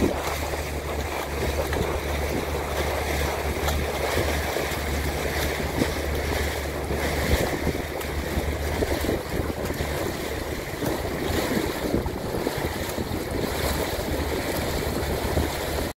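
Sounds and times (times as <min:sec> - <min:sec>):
lake water lapping: 0:00.0 - 0:15.9
steady low hum: 0:00.0 - 0:15.9
wind buffeting microphone: 0:00.0 - 0:15.9.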